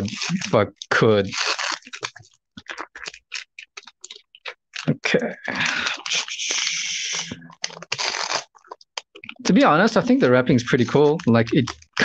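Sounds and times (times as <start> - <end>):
wrapper tearing rustle: 0.0 - 3.8, 5.6 - 12.0
foil wrapper crinkling: 0.0 - 12.0.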